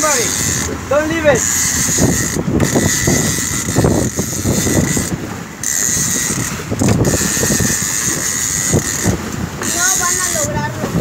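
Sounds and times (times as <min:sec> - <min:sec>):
small boat motor running: 0:00.0 - 0:11.0
wind buffeting microphone: 0:00.0 - 0:11.0.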